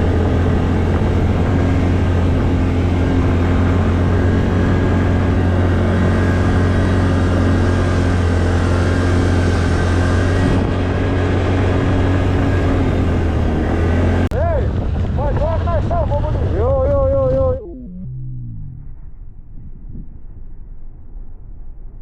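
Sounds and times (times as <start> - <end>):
atv engine running: 0.0 - 18.8.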